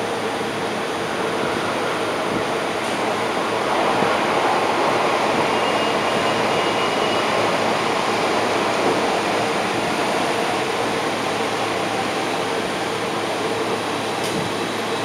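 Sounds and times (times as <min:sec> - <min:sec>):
high-speed train rushing past: 0:00.0 - 0:15.0.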